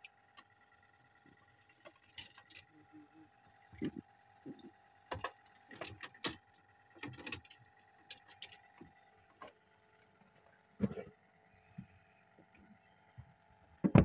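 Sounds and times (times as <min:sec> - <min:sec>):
faint electric hum: 0:00.0 - 0:14.0.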